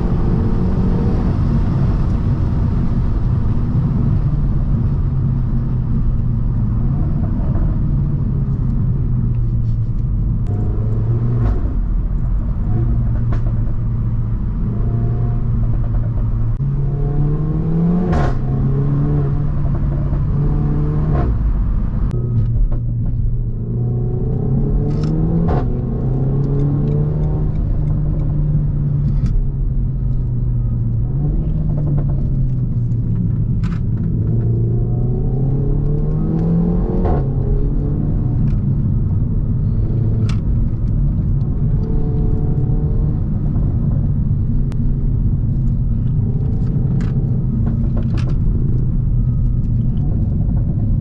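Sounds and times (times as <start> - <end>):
car engine accelerating: 0.0 - 51.0
exhaust crack at gear changes: 1.2 - 51.0.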